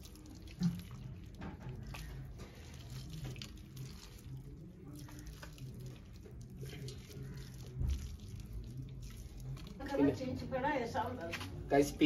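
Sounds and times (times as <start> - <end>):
liquid dripping into a steel pot: 0.0 - 10.0
small wet splashes: 0.0 - 10.0.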